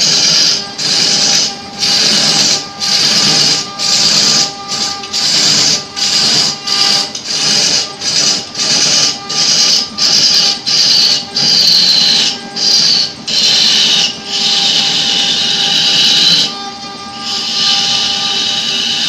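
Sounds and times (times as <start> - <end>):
chisel scraping wood on lathe: 0.0 - 19.0.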